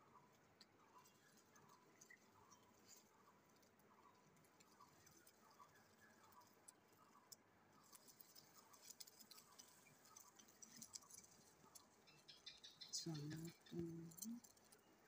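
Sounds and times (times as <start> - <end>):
faint ticks: 0.1 - 15.0.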